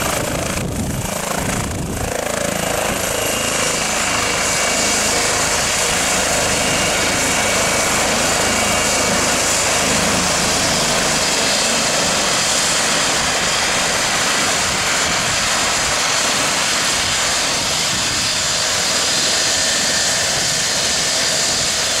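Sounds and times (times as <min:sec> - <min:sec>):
helicopter turbine whine: 0:00.0 - 0:22.0.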